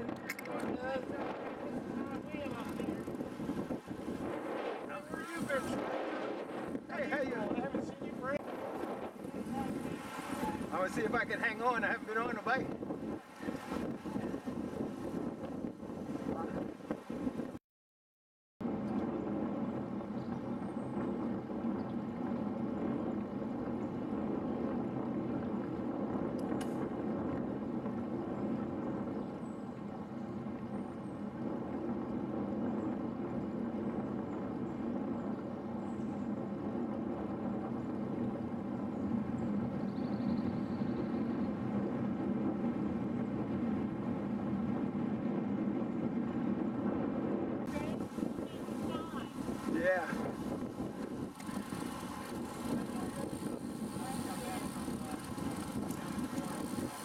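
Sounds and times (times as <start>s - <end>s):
bicycle tyre road noise: 0.0s - 17.6s, 18.6s - 57.0s
wind rushing over microphone: 0.0s - 17.6s, 18.6s - 57.0s.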